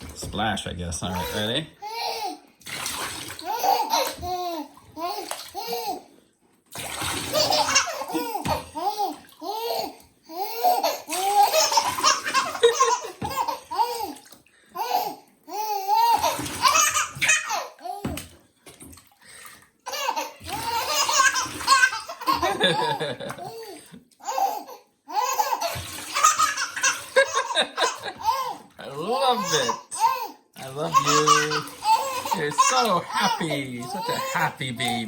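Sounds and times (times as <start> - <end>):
bath water splashing: 0.0 - 35.0
baby laughing: 1.1 - 2.4, 3.4 - 6.1, 7.3 - 14.2, 14.8 - 18.2, 19.9 - 35.0.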